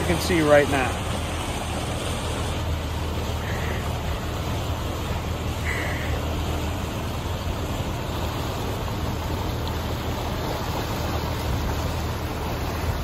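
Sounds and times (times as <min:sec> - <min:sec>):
boat engine droning: 0:00.0 - 0:13.0
water rushing past hull: 0:00.0 - 0:13.0.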